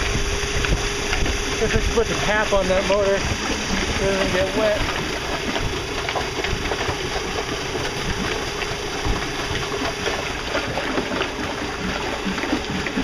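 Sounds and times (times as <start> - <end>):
water rushing in boat wake: 0.0 - 13.0.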